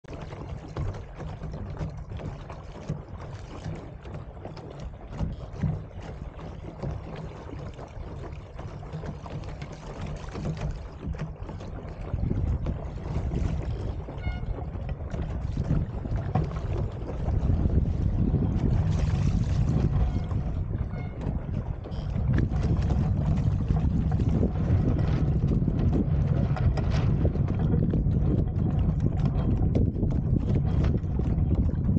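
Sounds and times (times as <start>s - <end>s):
water lapping against hull: 0.0s - 31.9s
wind buffeting microphone: 5.0s - 31.9s.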